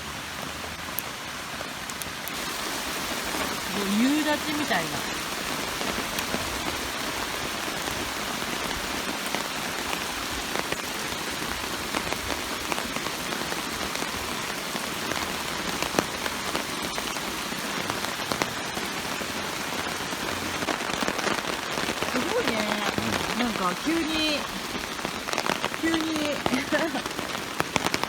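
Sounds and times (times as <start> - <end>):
heavy rain hiss: 0.0 - 28.0
raindrop ticks: 0.8 - 28.0.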